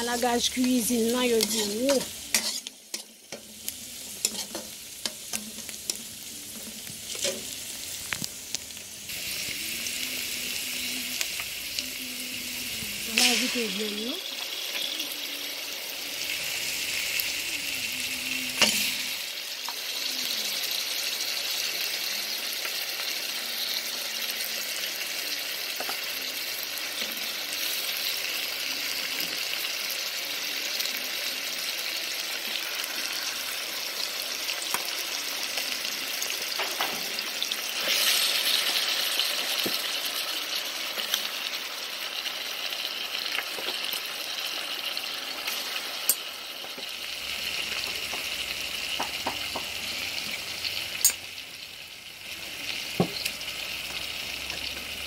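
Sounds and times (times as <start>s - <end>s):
meat sizzling in hot oil: 0.0s - 55.0s.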